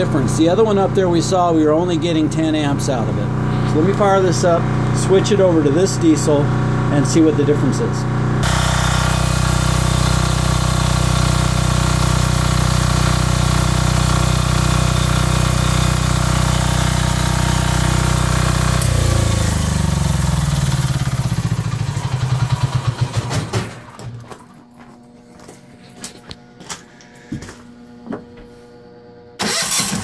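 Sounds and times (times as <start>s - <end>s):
diesel generator chugging: 0.0s - 24.3s.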